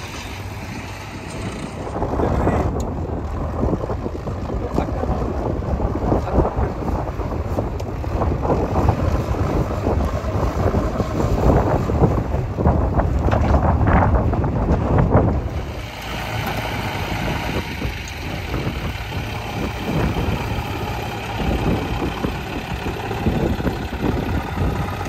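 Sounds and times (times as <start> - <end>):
diesel machinery engines: 0.0 - 25.0
wind buffeting microphone: 0.0 - 25.0.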